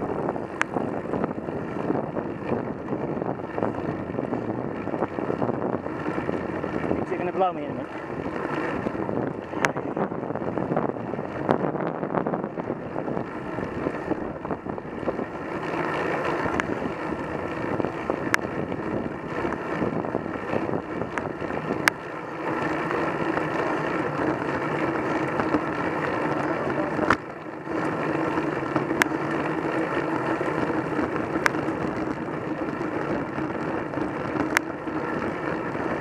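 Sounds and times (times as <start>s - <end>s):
bicycle tyre noise on tarmac: 0.0s - 36.0s
wind noise: 0.0s - 36.0s.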